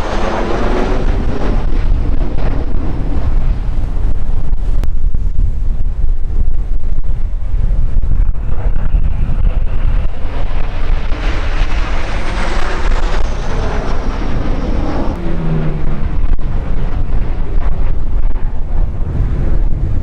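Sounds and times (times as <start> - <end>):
jets roaring past: 0.0 - 20.0
wind rumble on microphone: 0.0 - 20.0.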